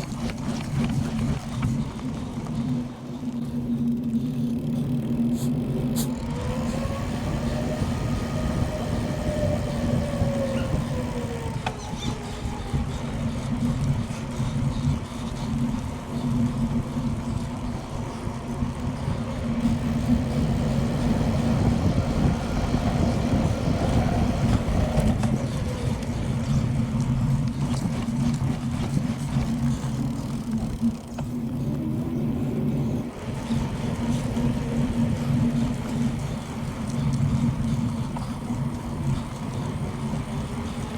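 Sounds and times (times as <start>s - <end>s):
bicycle tyres rolling: 0.0s - 40.9s
steady low hum: 0.0s - 40.9s
wind rushing over microphone: 5.2s - 40.9s.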